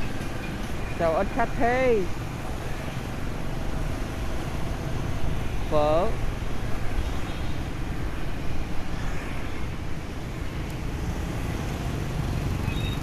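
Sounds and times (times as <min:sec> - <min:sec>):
scooter and car engines: 0:00.0 - 0:13.0.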